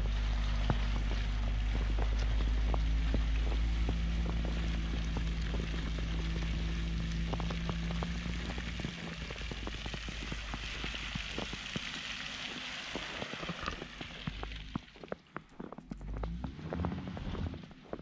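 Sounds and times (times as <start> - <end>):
van engine humming: 0.0 - 18.0
wet snow crunching: 0.0 - 18.0.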